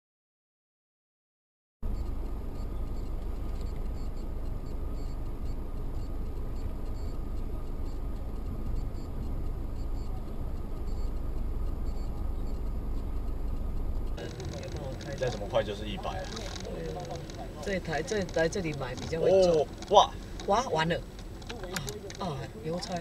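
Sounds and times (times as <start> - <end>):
car engine and road noise: 1.8 - 23.0.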